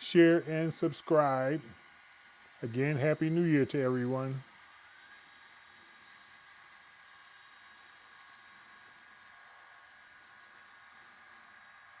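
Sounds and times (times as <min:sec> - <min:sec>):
high-pitched whining tones: 0:00.0 - 0:12.0.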